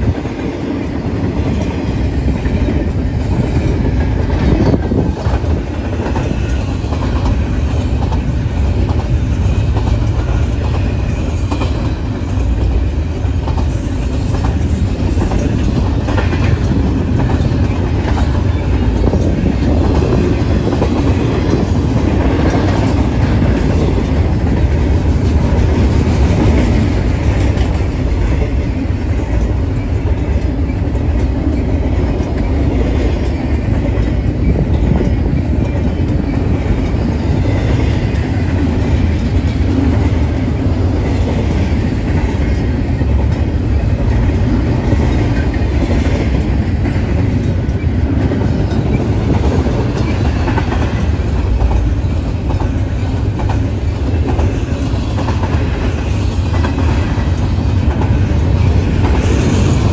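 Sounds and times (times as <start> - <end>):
freight train rumbling past: 0.0 - 59.9
wheel-on-rail noise: 0.0 - 59.9.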